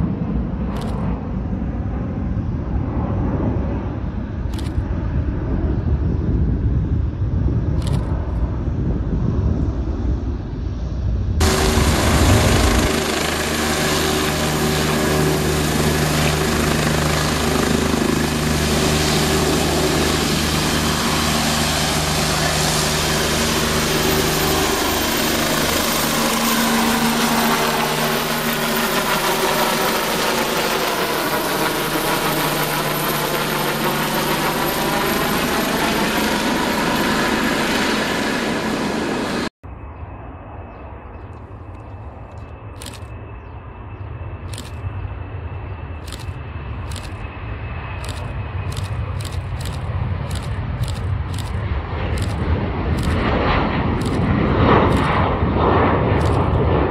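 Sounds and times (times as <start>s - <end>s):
helicopter flying overhead: 0.0s - 56.9s
outdoor background: 0.0s - 56.9s.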